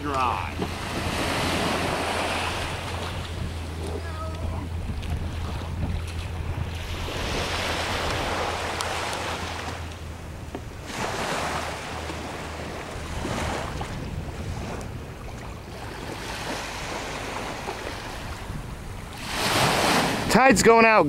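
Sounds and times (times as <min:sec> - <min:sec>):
low rumble: 0:00.0 - 0:19.2
wind on microphone: 0:00.0 - 0:20.4
small waves on rocky shore: 0:00.0 - 0:20.9.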